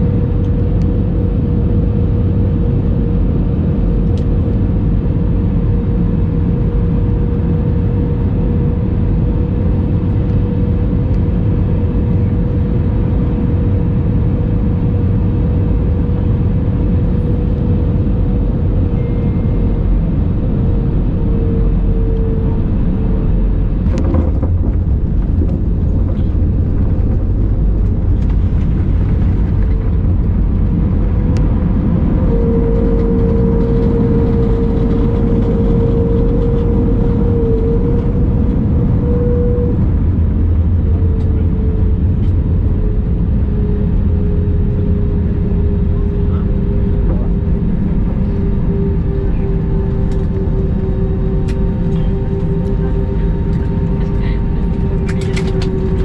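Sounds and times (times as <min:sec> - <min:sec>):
fan whine: 0:00.0 - 0:56.0
jet engine cabin rumble: 0:00.0 - 0:56.0.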